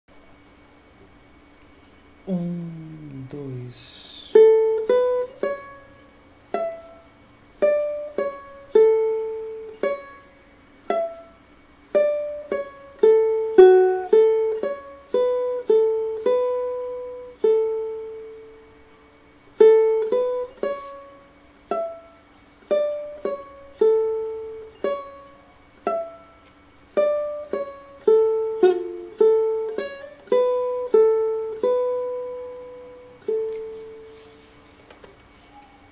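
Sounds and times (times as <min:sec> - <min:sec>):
ukulele plucked melody: 0:04.4 - 0:18.8, 0:19.6 - 0:34.1.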